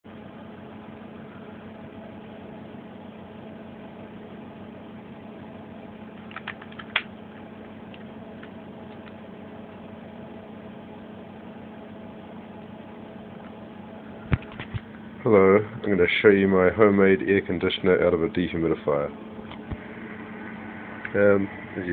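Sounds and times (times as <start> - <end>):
air conditioner humming: 0.1 - 21.9.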